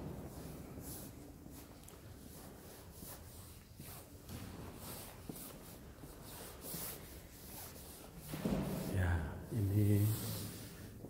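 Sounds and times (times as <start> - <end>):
faint shuffling and rustling: 0.0 - 11.0.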